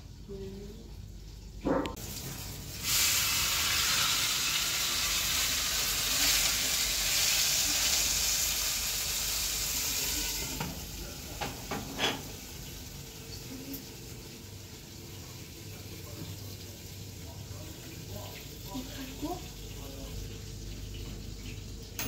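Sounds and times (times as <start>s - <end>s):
fish sizzling in hot oil: 2.0s - 21.8s.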